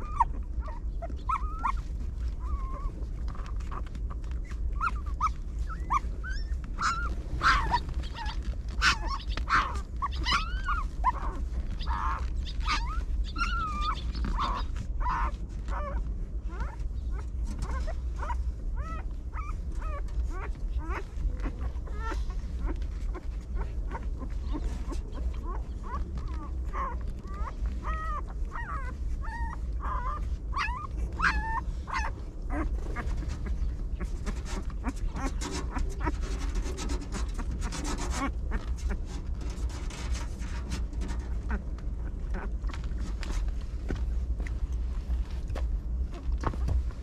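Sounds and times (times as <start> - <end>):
low rumble: 0.0 - 47.0
puppies whimpering: 0.0 - 47.0
rustling: 0.0 - 47.0.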